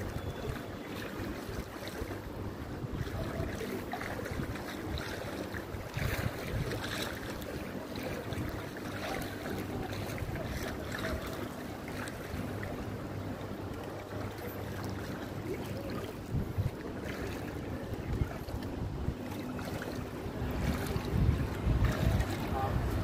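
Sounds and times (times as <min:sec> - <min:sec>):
continuous rushing noise: 0:00.0 - 0:23.0
wind buffeting microphone: 0:00.0 - 0:23.0.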